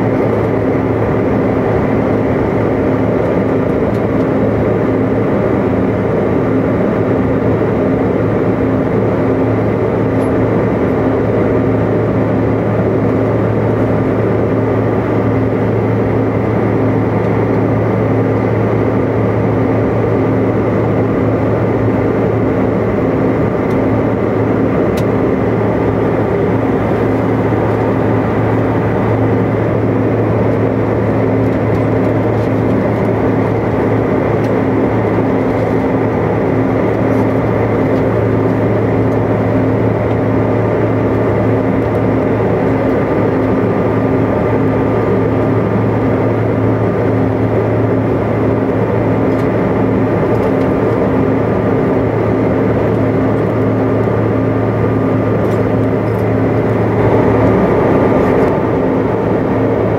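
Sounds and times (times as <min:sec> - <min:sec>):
jet cabin airflow rush: 0:00.0 - 0:59.9
jet engines droning: 0:00.0 - 0:59.9.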